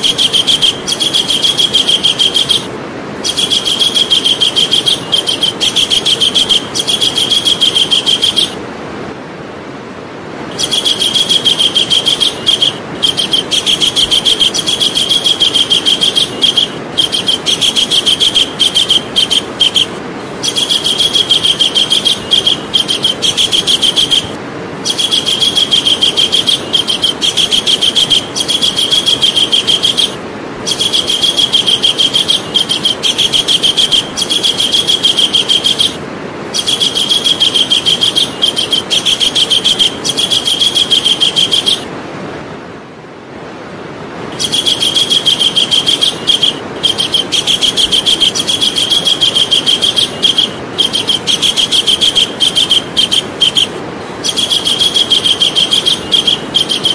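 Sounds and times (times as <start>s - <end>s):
kingfisher rattling call: 0.0s - 8.6s, 10.5s - 41.9s, 44.3s - 56.9s
steady low hiss: 0.0s - 56.9s.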